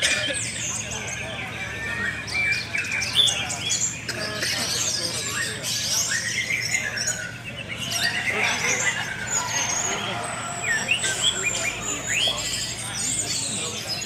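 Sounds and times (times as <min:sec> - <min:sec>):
many songbirds singing: 0:00.0 - 0:14.0.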